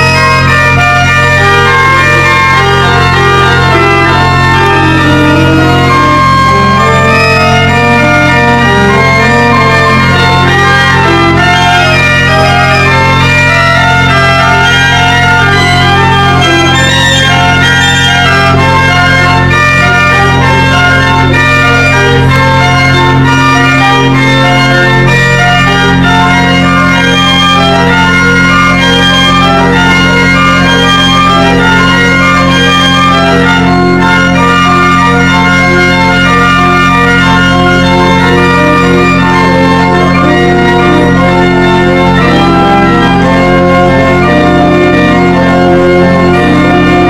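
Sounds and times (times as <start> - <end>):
pipe organ playing: 0.0 - 47.0.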